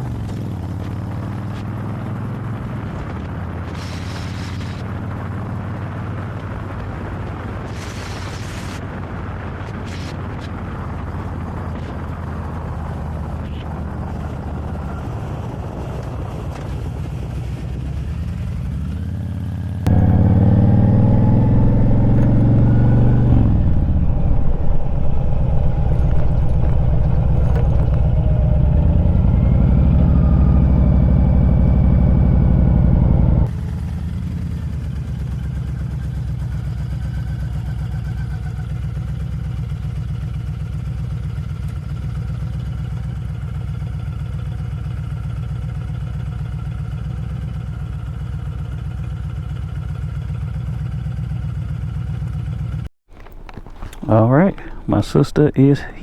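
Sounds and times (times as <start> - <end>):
motorcycle engine running: 10.6 - 56.0.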